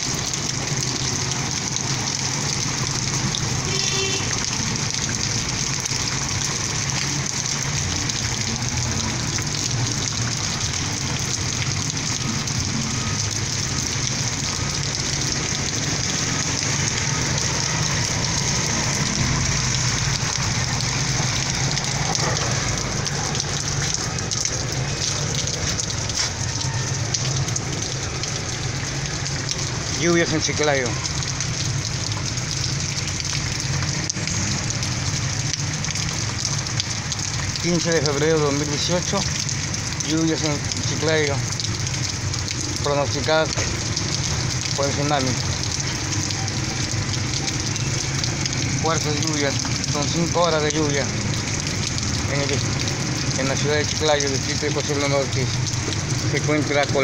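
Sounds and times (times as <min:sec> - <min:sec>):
heavy rain on wet pavement: 0:00.0 - 0:57.0.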